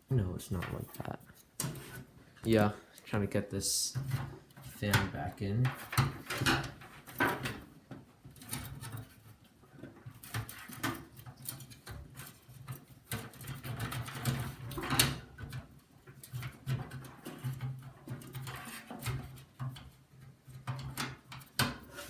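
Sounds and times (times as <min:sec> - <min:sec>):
plastic fan clicking and scraping: 0:00.1 - 0:02.6, 0:03.7 - 0:22.0.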